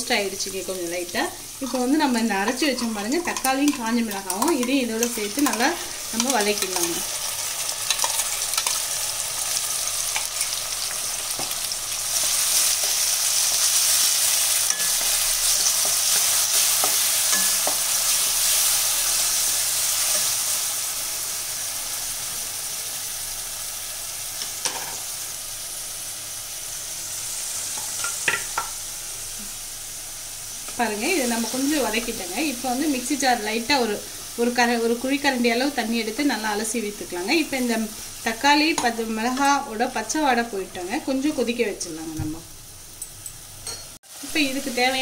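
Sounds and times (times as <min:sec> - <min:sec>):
paste sizzling in hot oil: 0:00.1 - 0:41.6.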